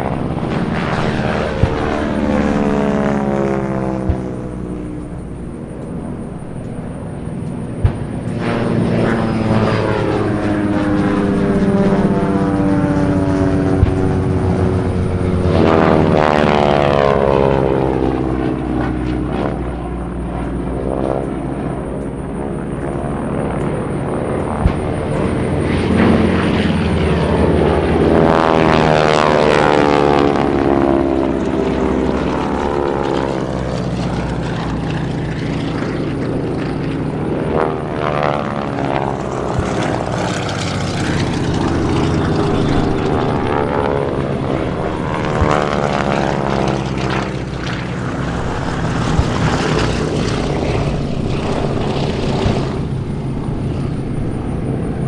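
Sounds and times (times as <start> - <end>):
propeller aircraft engines droning: 0.0 - 55.0.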